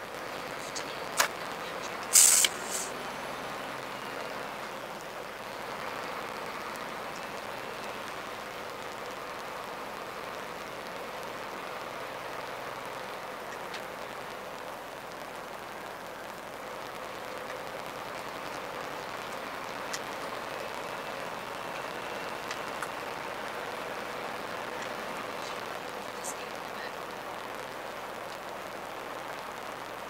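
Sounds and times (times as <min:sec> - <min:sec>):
truck cab road noise hiss: 0:00.0 - 0:30.0.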